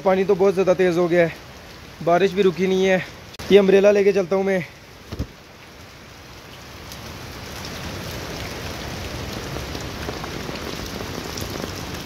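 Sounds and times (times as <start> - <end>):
rain on umbrella: 0.0 - 12.0.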